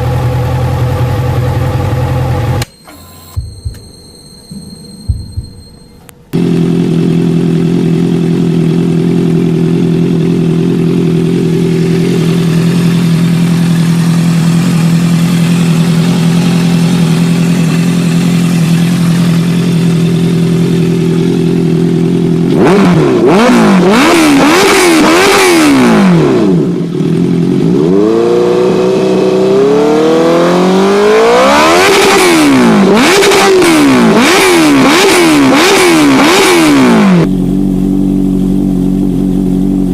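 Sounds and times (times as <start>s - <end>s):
motorcycle engine idling and revving: 0.0s - 2.7s, 3.3s - 39.9s.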